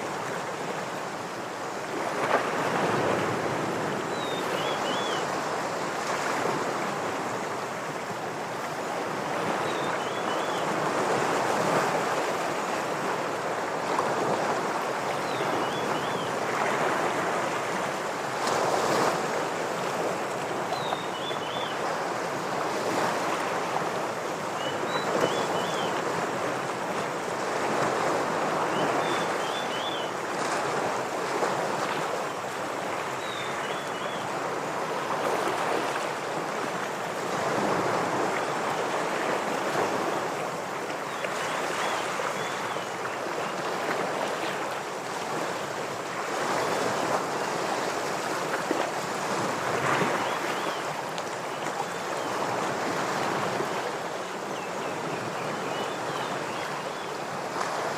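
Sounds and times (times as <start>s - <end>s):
ocean waves on rocks: 0.0s - 57.9s.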